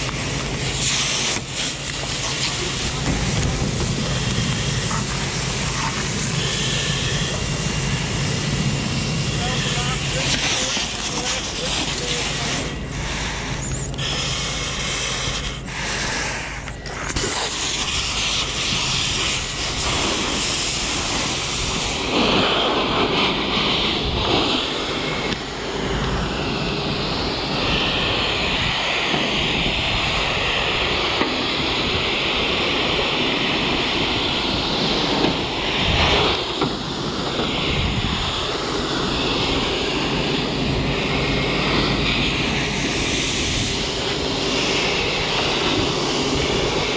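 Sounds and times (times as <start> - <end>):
hose nozzle spraying foam: 0.0 - 46.9.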